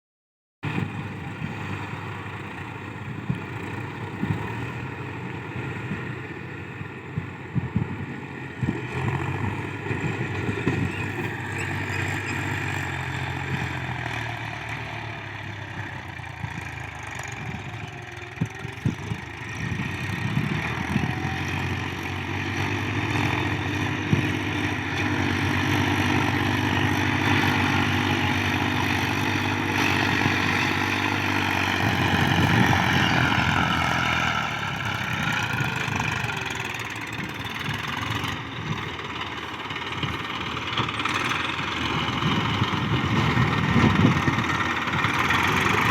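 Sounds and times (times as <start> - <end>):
tractor engine running: 0.6 - 45.9.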